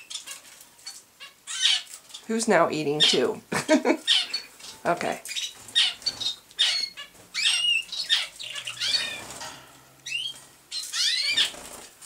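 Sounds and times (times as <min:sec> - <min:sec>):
canaries chirping: 0:00.0 - 0:12.0.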